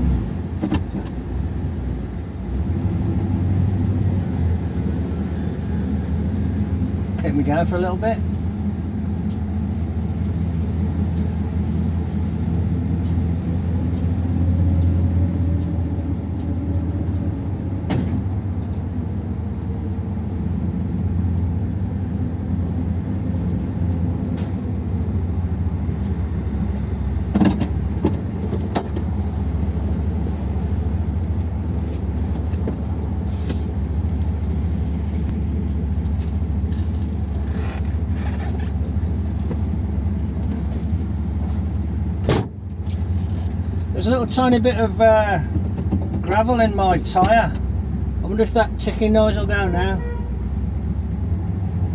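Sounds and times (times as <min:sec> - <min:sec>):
car engine running: 0:04.5 - 0:51.9.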